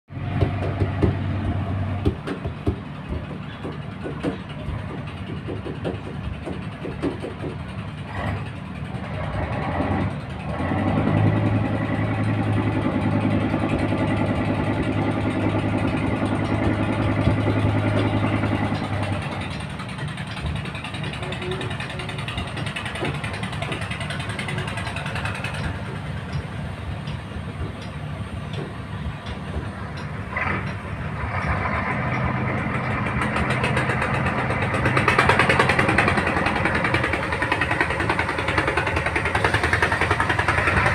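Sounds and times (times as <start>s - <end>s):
boat engine running: 0.1s - 40.9s
knocks and clatter: 0.2s - 40.9s.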